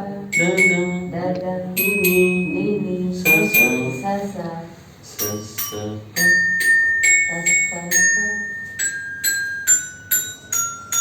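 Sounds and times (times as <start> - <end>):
tuned bells melody: 0.3 - 1.2, 1.8 - 4.3, 5.2 - 11.0.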